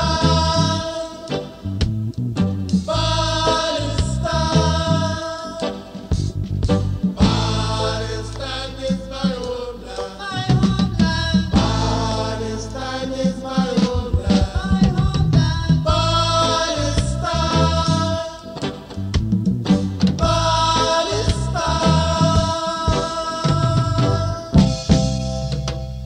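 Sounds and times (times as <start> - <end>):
reggae song with singing and band: 0.0 - 1.9, 2.7 - 26.0.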